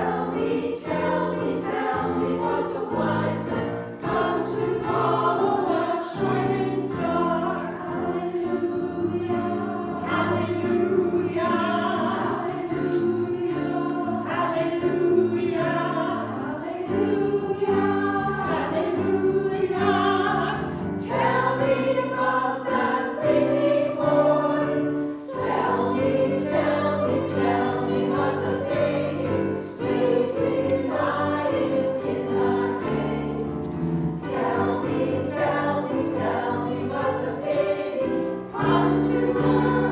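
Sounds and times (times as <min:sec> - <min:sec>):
piano accompaniment: 0:00.0 - 0:39.9
women's choir singing: 0:00.0 - 0:39.9.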